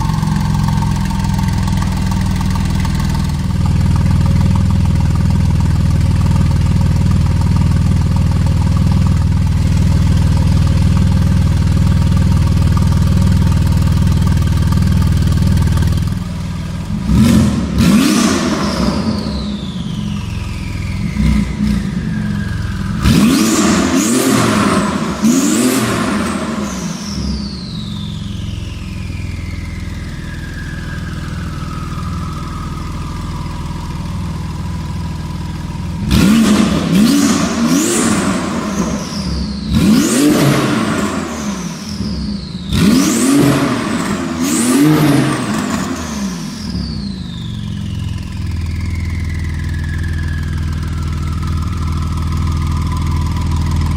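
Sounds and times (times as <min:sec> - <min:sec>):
sports car engine revving: 0:00.0 - 0:53.9.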